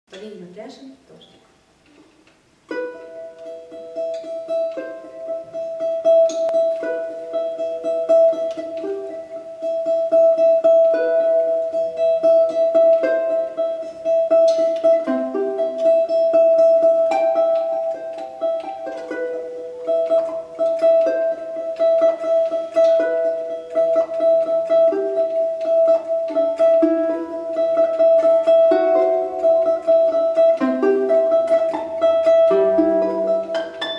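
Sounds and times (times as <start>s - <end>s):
domra plucked melody: 2.6s - 33.9s.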